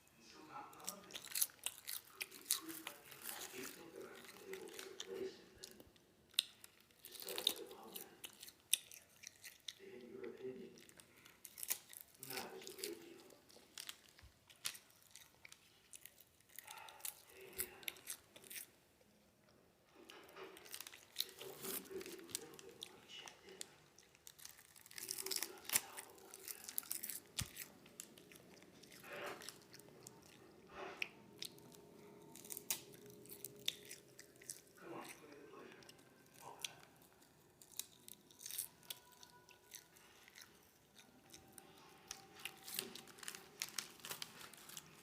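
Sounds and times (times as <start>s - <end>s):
seaweed crunching: 0.6s - 18.7s, 20.1s - 45.0s.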